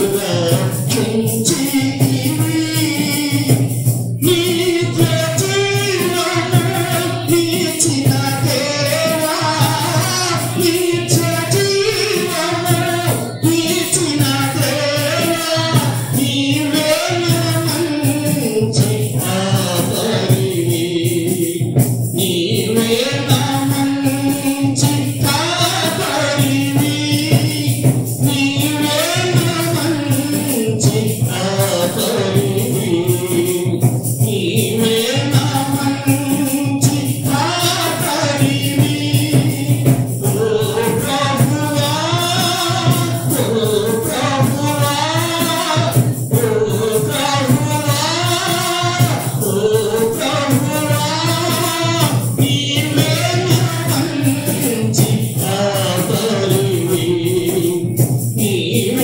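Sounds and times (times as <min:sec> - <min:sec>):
music with percussive beat: 0:00.0 - 0:59.0
voices singing devotional song: 0:00.0 - 0:59.0.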